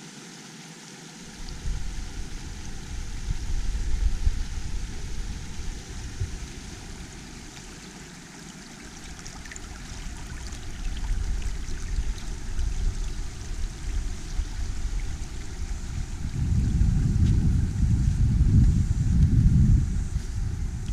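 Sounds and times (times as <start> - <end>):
creek water running over rocks: 0.0 - 19.4
wind rumble on microphone: 1.3 - 7.9, 8.8 - 20.9.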